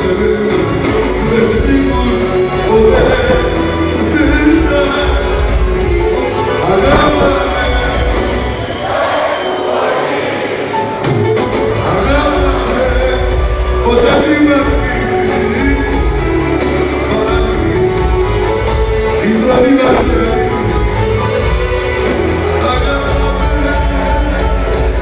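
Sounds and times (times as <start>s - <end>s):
live band music through speakers: 0.0s - 25.0s.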